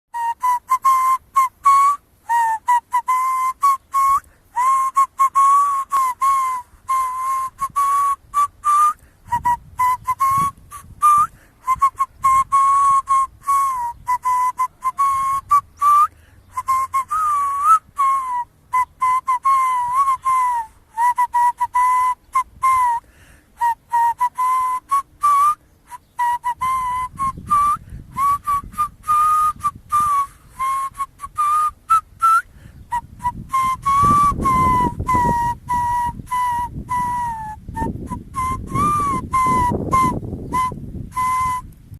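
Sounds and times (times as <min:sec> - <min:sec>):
whistled melody: 0:00.1 - 0:23.0, 0:23.6 - 0:41.8.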